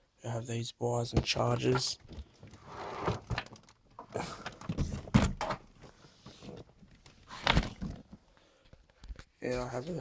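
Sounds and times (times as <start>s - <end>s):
cables and chargers rustling: 1.0s - 10.0s.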